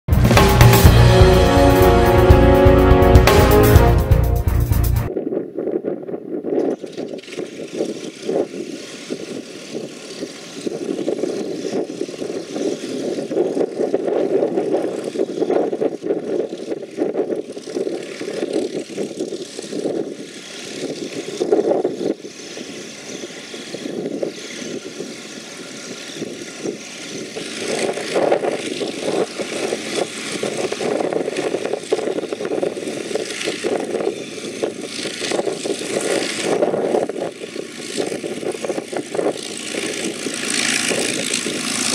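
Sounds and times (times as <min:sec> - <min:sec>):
aircraft piston engine running: 0:00.1 - 0:05.1, 0:06.9 - 0:41.9.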